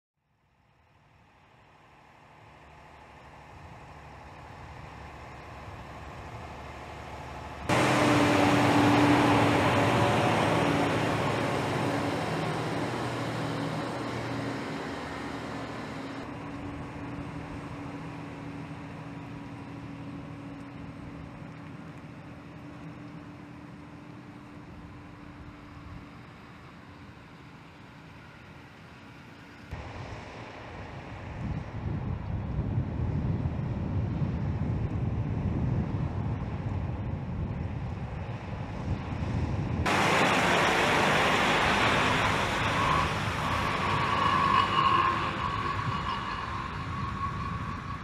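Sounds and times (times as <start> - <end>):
diesel truck engine: 0.3 - 48.0.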